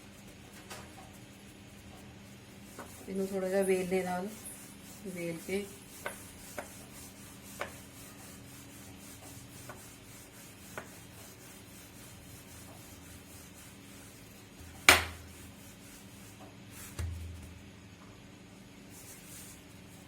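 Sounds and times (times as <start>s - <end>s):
rolling pin rubbing dough: 0.0s - 17.4s, 18.8s - 20.0s.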